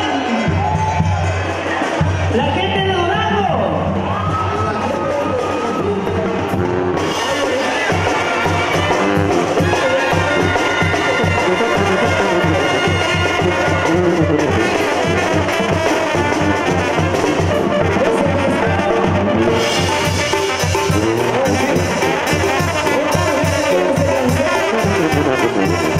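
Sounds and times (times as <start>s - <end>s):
brass band playing: 0.0s - 25.9s
bass drum beat: 0.4s - 25.9s.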